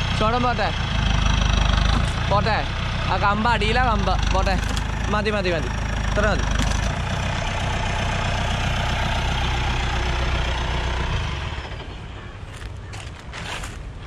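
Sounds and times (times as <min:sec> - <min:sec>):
diesel engine running: 0:00.0 - 0:13.8.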